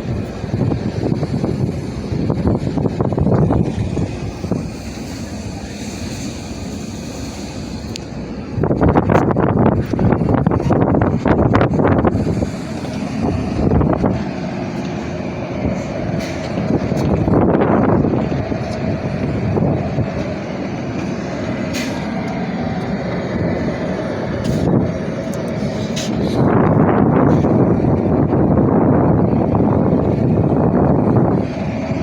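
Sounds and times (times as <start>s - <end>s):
air conditioner fan drone: 0.0s - 32.0s.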